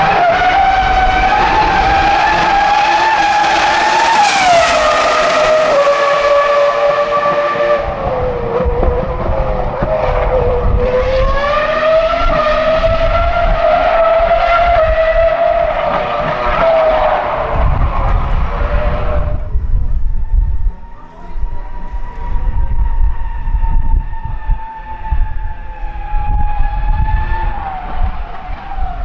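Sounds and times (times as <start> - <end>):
racing car engine howling: 0.0 - 29.0.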